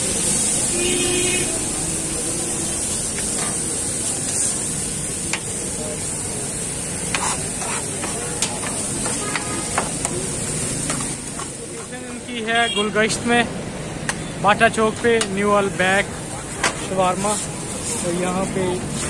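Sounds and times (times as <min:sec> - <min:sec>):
chicken sizzling on griddle: 0:00.0 - 0:13.4, 0:14.0 - 0:19.0.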